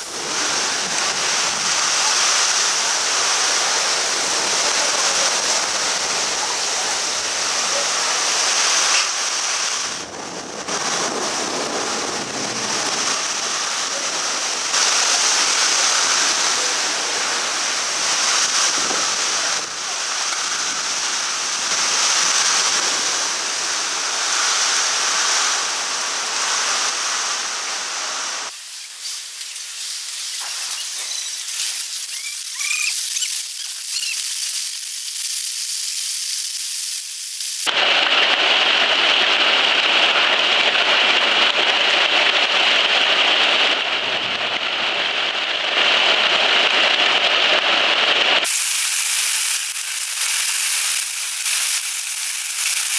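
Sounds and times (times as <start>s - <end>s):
hail and rain pelting down: 0.0s - 52.9s.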